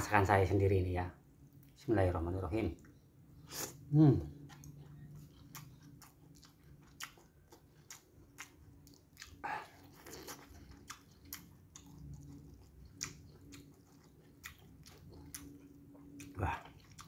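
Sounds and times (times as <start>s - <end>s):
man chewing food: 2.8s - 17.0s.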